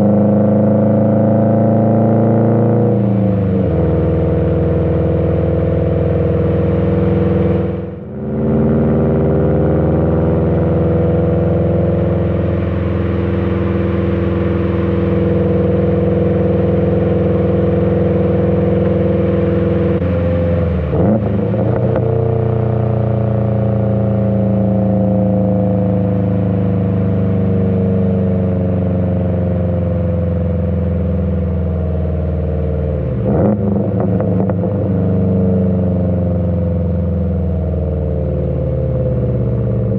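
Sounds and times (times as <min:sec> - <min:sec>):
car engine and exhaust cruising: 0:00.0 - 0:39.9.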